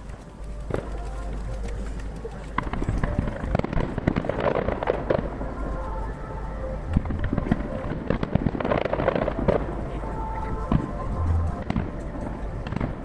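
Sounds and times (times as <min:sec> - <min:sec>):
distant fireworks bangs: 0:00.0 - 0:06.0, 0:06.9 - 0:13.0.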